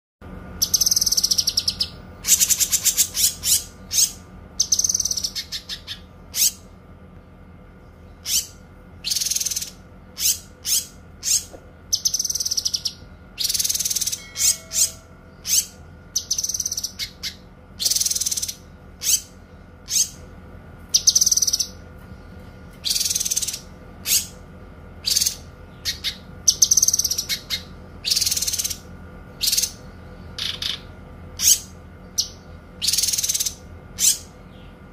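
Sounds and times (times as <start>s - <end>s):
faint steady hum: 0.2s - 34.9s
songbird singing high phrases: 0.6s - 6.7s, 7.9s - 20.2s, 20.9s - 21.8s, 22.8s - 24.4s, 25.0s - 34.8s.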